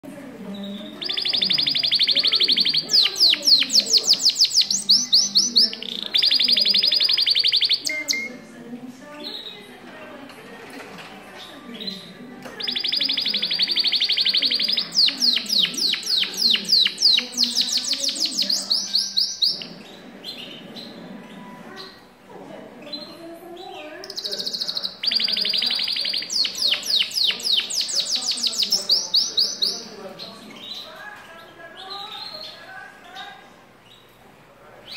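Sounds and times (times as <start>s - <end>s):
canary singing trills: 0.4s - 8.5s, 9.1s - 9.9s, 11.4s - 34.2s.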